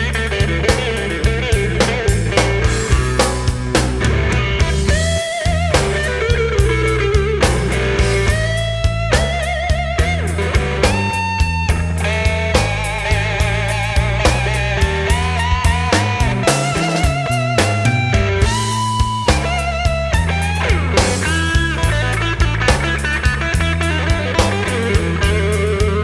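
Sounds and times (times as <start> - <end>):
bass: 0.0 - 26.0
drums: 0.0 - 26.0
lead guitar with vibrato: 0.0 - 26.0.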